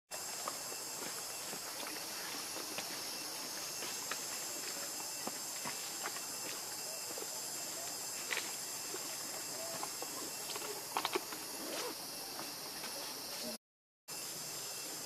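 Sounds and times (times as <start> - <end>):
high-pitched insect chorus: 0.1 - 15.0.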